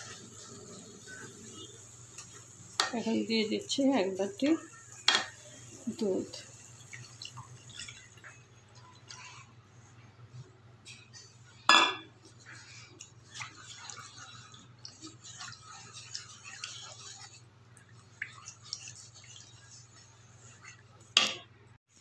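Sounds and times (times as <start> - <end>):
wooden spatula stirring in pan: 0.0 - 22.0.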